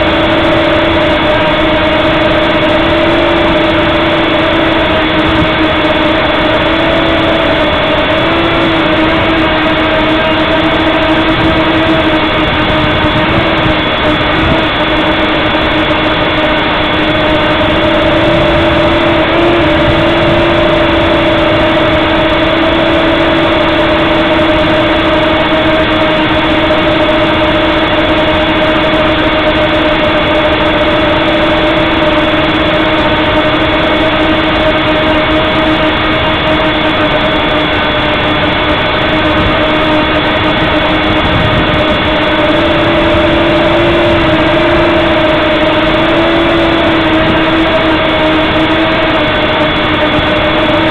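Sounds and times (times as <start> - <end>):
quadcopter propellers buzzing: 0.0 - 50.9.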